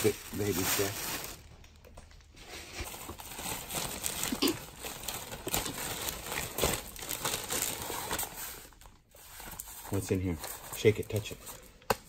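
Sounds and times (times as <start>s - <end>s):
plastic bags crinkling: 0.0s - 11.7s.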